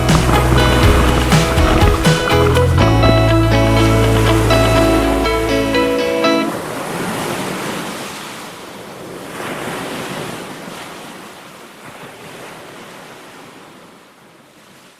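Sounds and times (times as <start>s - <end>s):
ocean waves washing in: 0.0s - 14.9s.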